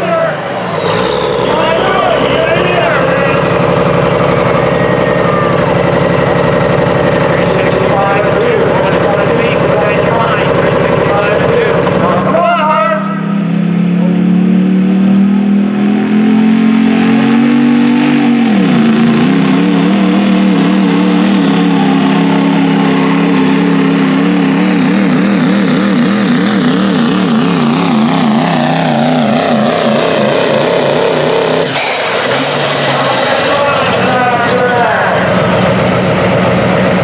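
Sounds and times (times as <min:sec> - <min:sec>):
diesel pickup engine at full throttle: 0:00.0 - 0:37.0.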